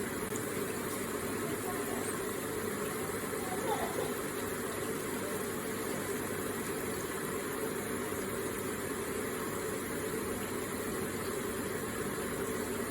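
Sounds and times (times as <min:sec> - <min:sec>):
water trickling in a water feature: 0:00.0 - 0:12.9.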